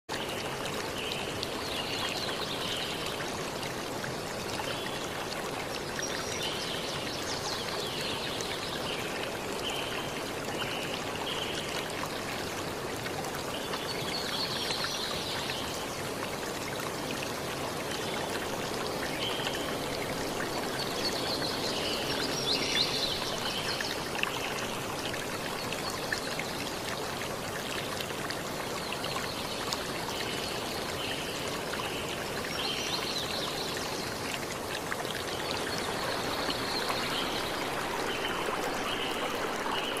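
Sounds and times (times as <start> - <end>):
stream flowing: 0.1 - 40.0.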